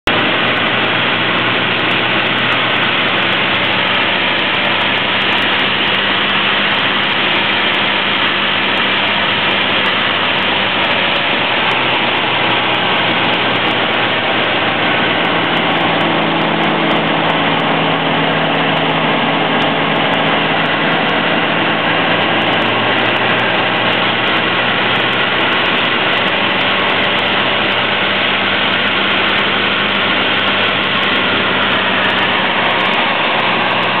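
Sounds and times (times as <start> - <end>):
rushing airflow: 0.0 - 34.0
ultralight engine running: 0.0 - 34.0.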